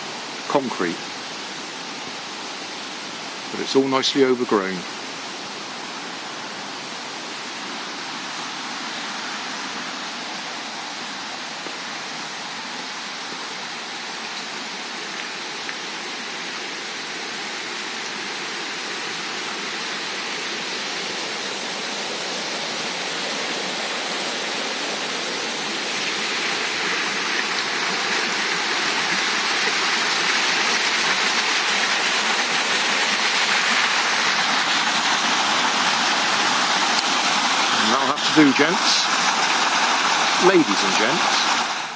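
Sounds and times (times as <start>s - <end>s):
rushing river water: 0.0s - 41.9s.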